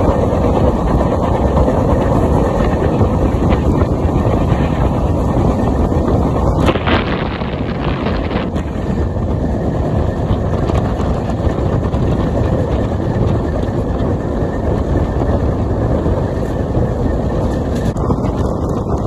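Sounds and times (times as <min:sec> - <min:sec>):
train wheels rumbling on track: 0:00.0 - 0:19.0
wind on microphone: 0:00.0 - 0:19.0.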